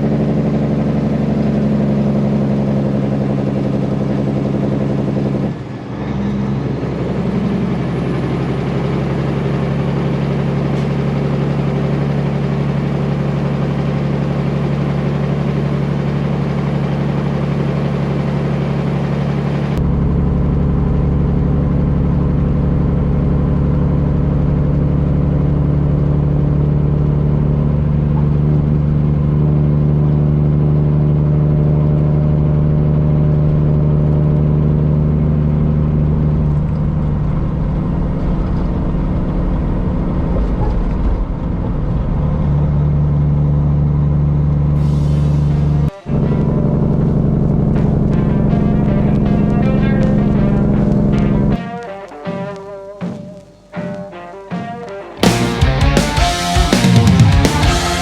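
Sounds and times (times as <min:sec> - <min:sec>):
diesel truck engine droning: 0:00.0 - 0:51.6, 0:55.2 - 0:58.0.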